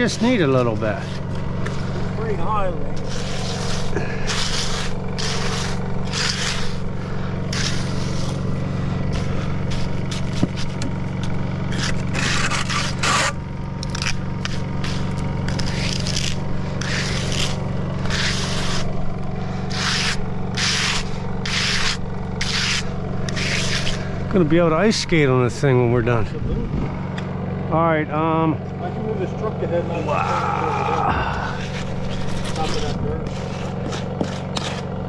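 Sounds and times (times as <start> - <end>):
tool scraping wet concrete: 0.0 - 26.4, 28.9 - 35.0
engine humming: 0.0 - 35.0.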